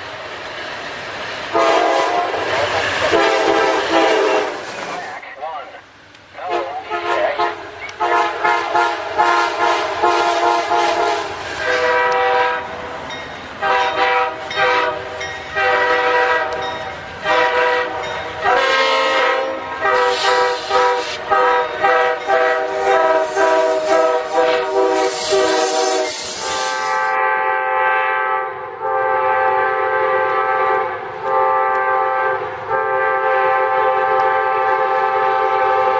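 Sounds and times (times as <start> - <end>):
locomotive air horn blasts: 1.5 - 2.5, 3.1 - 4.6, 6.4 - 12.8, 13.6 - 35.9.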